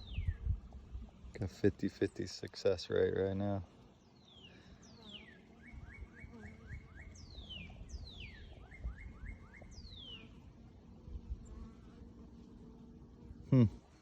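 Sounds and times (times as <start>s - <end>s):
songbird singing: 0.0s - 3.2s, 3.8s - 12.0s.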